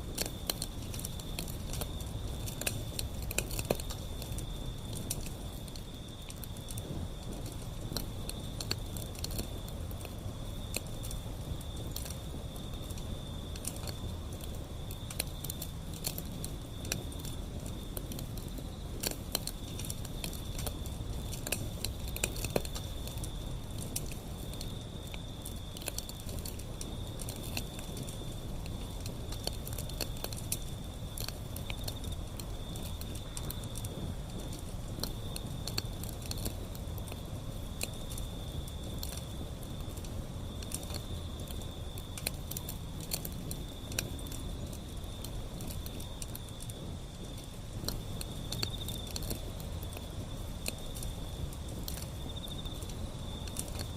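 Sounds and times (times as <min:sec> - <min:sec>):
cricket trilling: 0:00.0 - 0:53.9
wood fire crackling and popping: 0:00.0 - 0:53.9.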